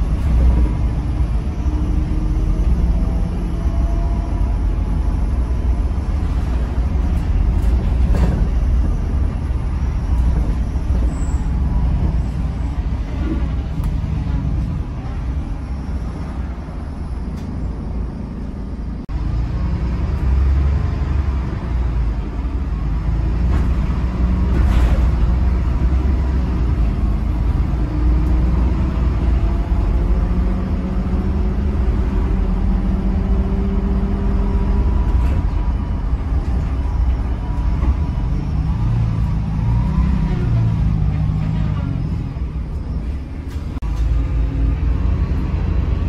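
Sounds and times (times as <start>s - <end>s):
bus diesel engine drone: 0.0s - 46.0s.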